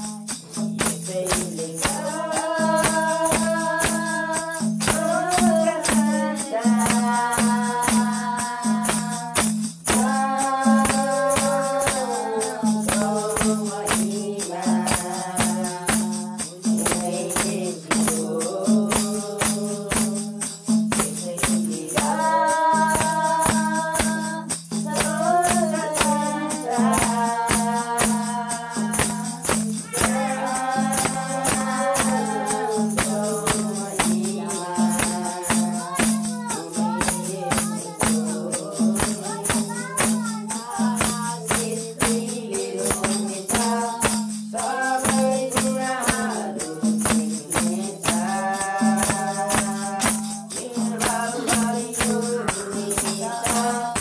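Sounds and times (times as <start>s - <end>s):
acoustic guitar: 0.0s - 54.0s
group singing a worship song: 0.0s - 54.0s
tambourine jingling: 0.0s - 54.0s.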